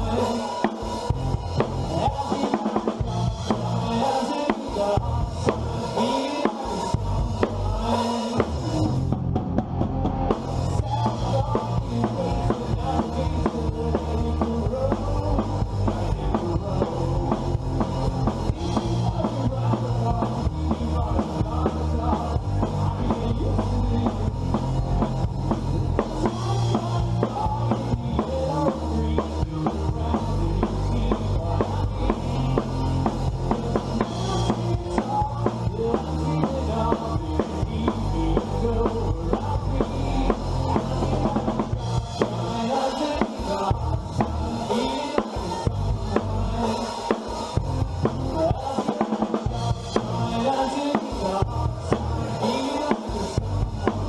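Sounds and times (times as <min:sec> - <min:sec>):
band playing pop-rock song: 0:00.0 - 0:54.0
bass line: 0:00.0 - 0:54.0
drum kit steady beat: 0:00.0 - 0:54.0.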